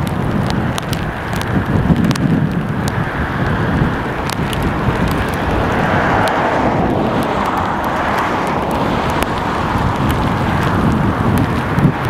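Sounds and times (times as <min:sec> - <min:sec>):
jet engines on approach: 0:00.0 - 0:12.0
wind buffeting microphone: 0:00.0 - 0:12.0.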